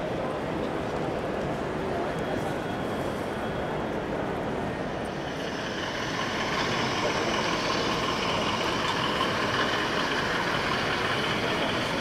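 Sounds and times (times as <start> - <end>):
crowd noise: 0.0 - 12.0
model train engine hum: 0.0 - 12.0.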